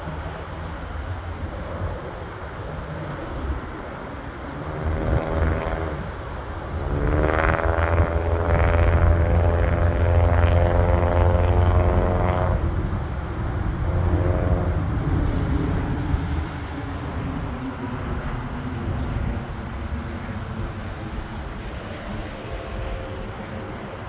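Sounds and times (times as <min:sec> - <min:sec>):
deep jet engine rumble: 0:00.0 - 0:24.0.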